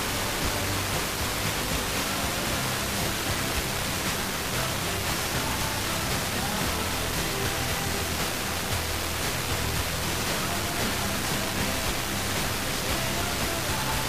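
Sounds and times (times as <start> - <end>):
faint music: 0.0 - 14.0
radio static hiss: 0.0 - 14.0.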